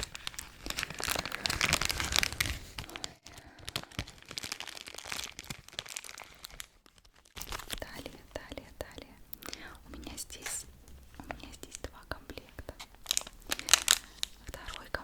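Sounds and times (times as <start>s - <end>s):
packaging crinkling by hand: 0.0s - 8.7s, 9.4s - 15.0s.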